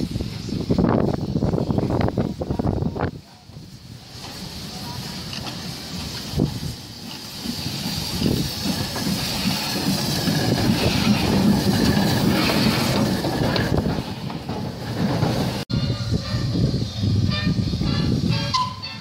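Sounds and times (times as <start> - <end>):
steam locomotive rumbling and clanking: 0.0 - 19.0.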